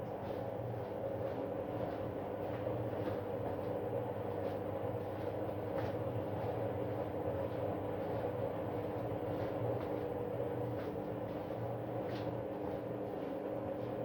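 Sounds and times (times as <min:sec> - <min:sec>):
washing machine drone and whine: 0:00.0 - 0:14.0.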